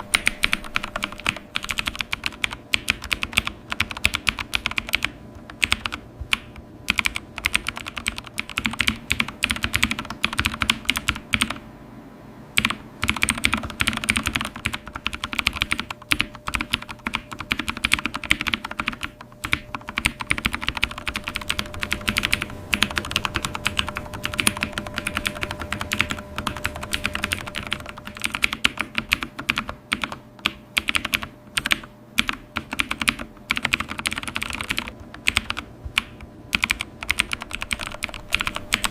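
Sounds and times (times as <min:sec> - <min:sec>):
fast typing on keyboard: 0:00.0 - 0:11.6, 0:12.6 - 0:38.9.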